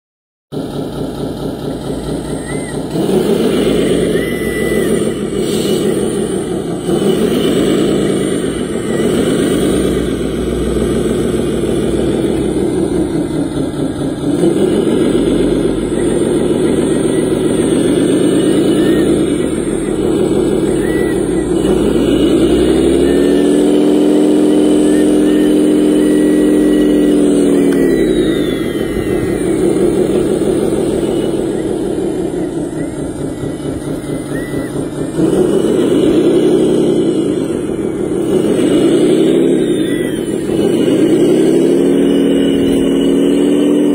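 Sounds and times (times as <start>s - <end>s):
model vehicle motor running: 1.8s - 43.9s.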